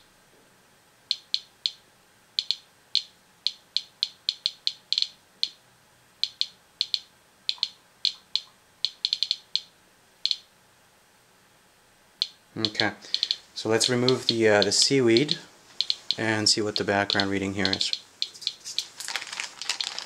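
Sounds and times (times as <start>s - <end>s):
geiger counter clicking: 1.1s - 1.8s, 2.4s - 5.6s, 6.2s - 10.5s, 12.2s - 20.0s.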